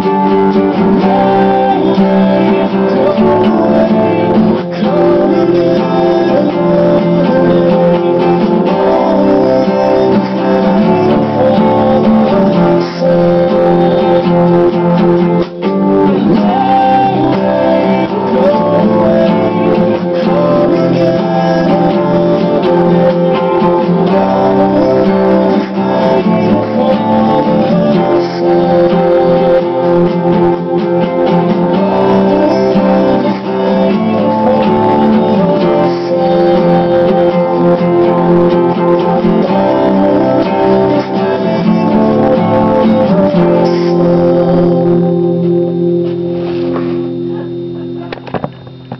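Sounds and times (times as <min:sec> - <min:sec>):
acoustic guitar strumming chords: 0:00.0 - 0:48.9.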